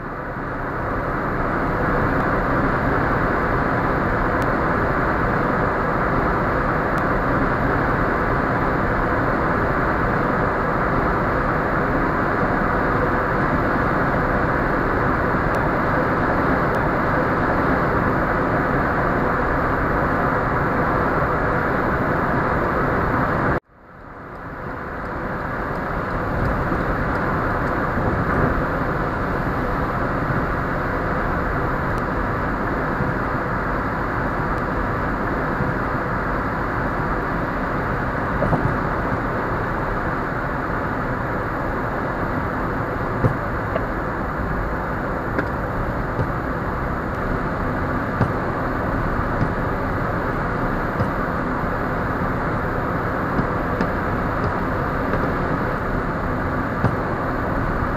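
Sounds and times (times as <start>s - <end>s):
road noise inside moving car: 0.0s - 57.9s.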